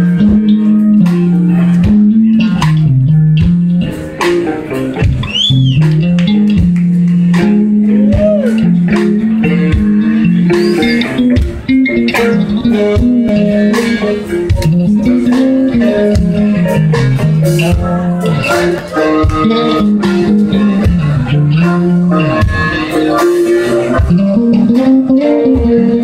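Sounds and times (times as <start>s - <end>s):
electric guitar bent notes: 0.0s - 26.0s
steady drums: 0.0s - 26.0s
walking bass guitar: 0.0s - 26.0s.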